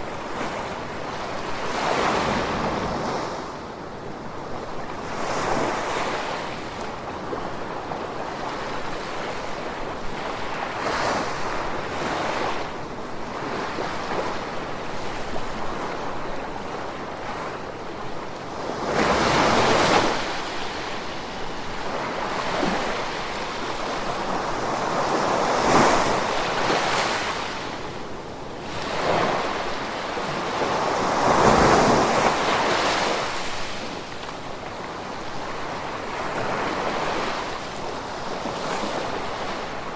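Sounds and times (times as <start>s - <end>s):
gentle ocean waves on shore: 0.0s - 39.9s.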